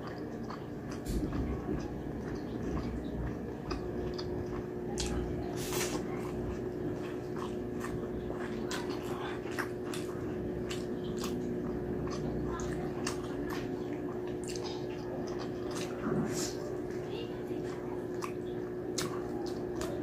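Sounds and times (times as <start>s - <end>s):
chewing and wet mouth sounds: 0.0s - 20.0s
steady low hum: 0.0s - 20.0s.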